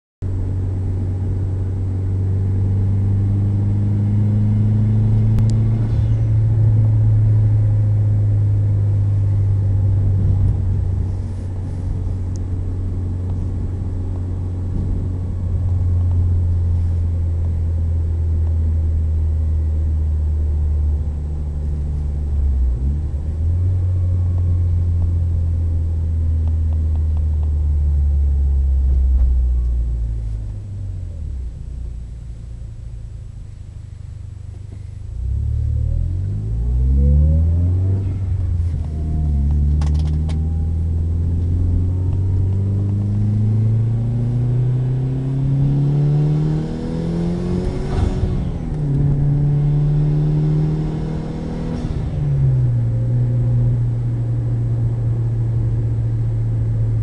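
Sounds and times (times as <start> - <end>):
car engine drone: 0.2 - 57.0
road noise: 0.2 - 57.0.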